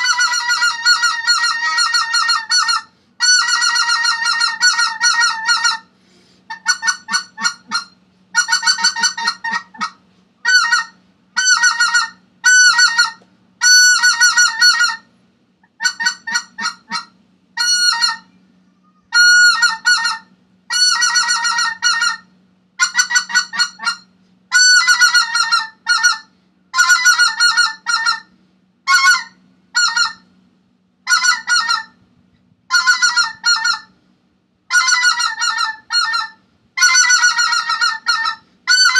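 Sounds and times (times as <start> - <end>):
geese yelping calls: 0.0 - 5.9, 6.5 - 30.3, 31.1 - 32.0, 32.7 - 34.0, 34.7 - 38.9
faint low hum: 0.0 - 38.9.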